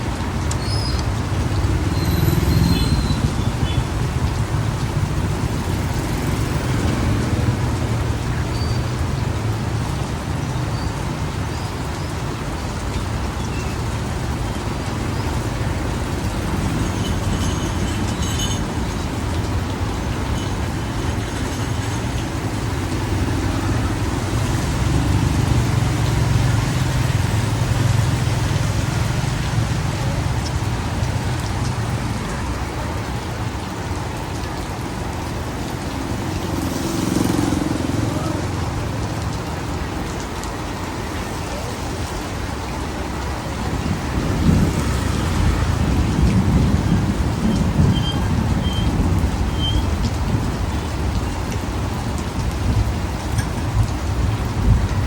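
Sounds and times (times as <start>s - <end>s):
steady rain: 0.0s - 55.0s
street traffic: 0.0s - 55.0s
vehicle engine rumble: 0.0s - 55.0s.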